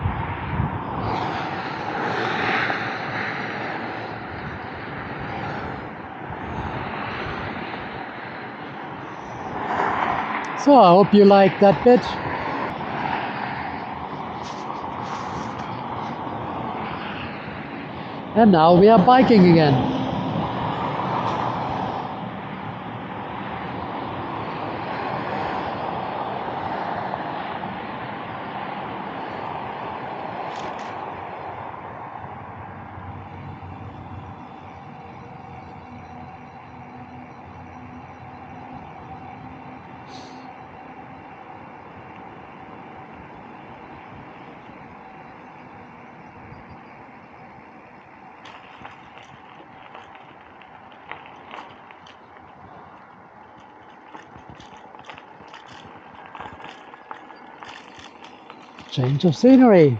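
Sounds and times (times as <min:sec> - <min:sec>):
highway traffic rushing: 0:00.0 - 0:59.9.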